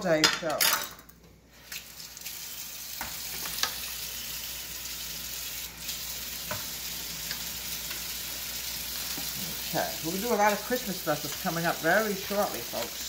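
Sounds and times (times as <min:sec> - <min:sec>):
kitchen tap running: 0:01.6 - 0:13.0.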